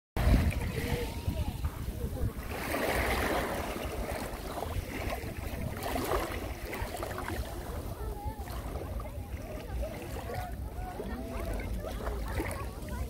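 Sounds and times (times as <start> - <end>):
waves washing over pebbles: 0.2 - 13.0.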